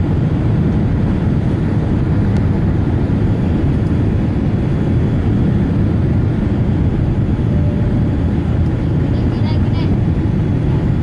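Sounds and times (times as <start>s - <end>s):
jet engines rumbling: 0.0s - 11.0s
rushing air: 0.0s - 11.0s.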